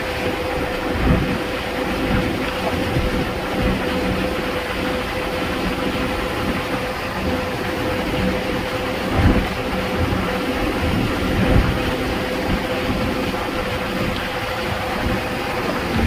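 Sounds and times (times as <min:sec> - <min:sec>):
steady hum: 0:00.0 - 0:16.0
tyre and wind rumble: 0:00.0 - 0:16.0.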